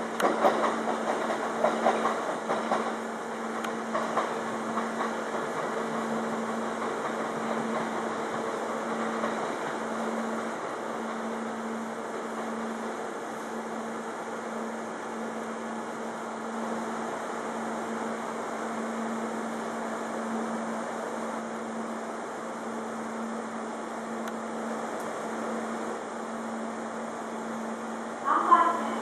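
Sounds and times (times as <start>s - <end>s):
train equipment electric hum: 0.0s - 29.0s.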